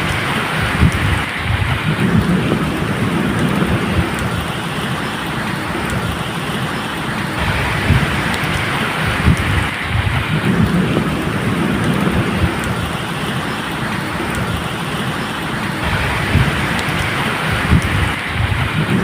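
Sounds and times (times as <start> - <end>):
low rolling thunder: 0.0 - 6.6, 7.2 - 19.0
rain falling: 0.0 - 19.0.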